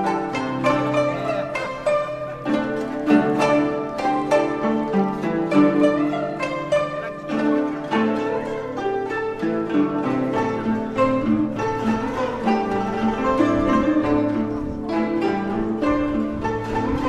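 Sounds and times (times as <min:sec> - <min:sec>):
plucked and bowed strings music: 0:00.0 - 0:17.0.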